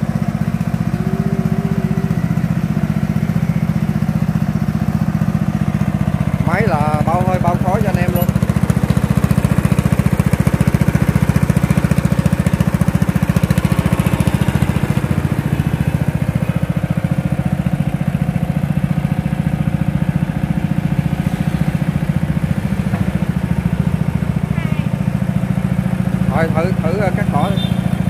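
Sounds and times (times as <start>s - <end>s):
mower engine running: 0.0s - 28.0s.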